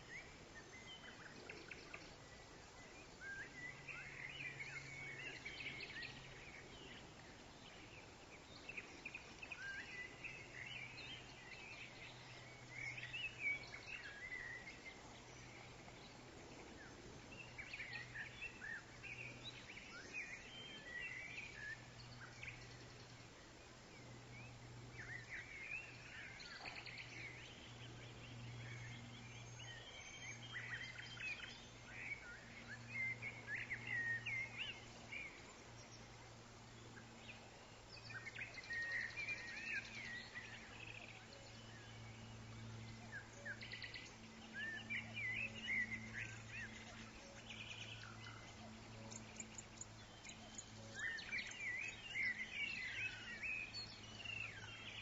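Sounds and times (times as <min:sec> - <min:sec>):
faint background hiss: 0:00.0 - 0:55.0
low steady hum: 0:00.0 - 0:55.0
songbirds chirping and twittering: 0:00.0 - 0:55.0.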